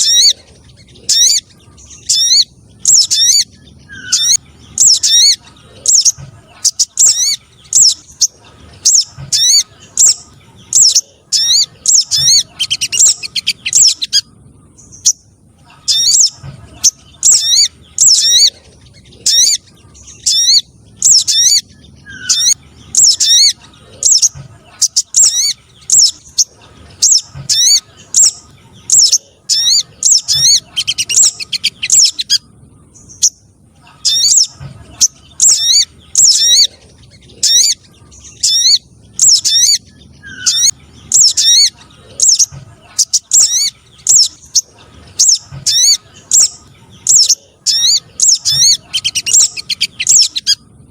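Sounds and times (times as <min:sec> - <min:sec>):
sharp high bird chirps: 0:00.0 - 0:50.6.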